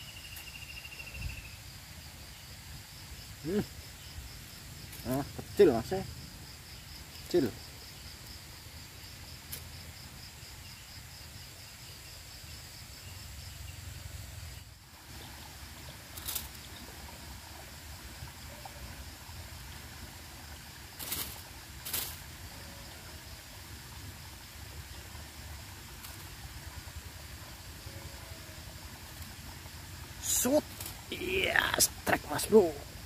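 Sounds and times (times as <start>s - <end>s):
insect trill: 0.0s - 33.0s.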